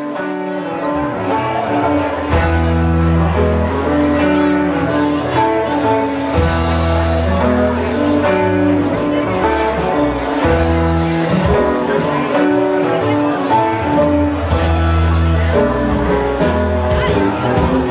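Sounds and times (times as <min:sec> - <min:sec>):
guitars holding sustained notes: 0:00.0 - 0:17.9
deep bass: 0:00.7 - 0:17.9.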